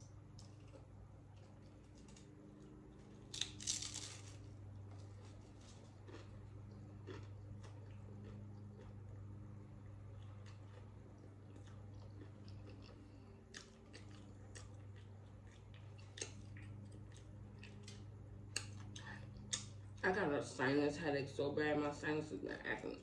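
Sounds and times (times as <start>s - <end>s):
tortilla chips crunching: 0.2s - 9.3s, 10.0s - 19.8s
person chewing: 0.4s - 20.0s.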